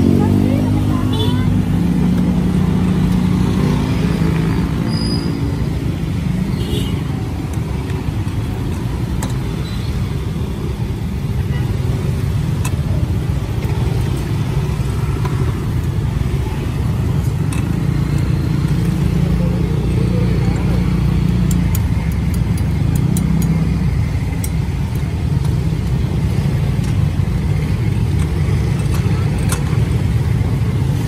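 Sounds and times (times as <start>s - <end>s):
street traffic rumble: 0.0s - 31.0s
vehicle engines running close by: 0.0s - 31.0s.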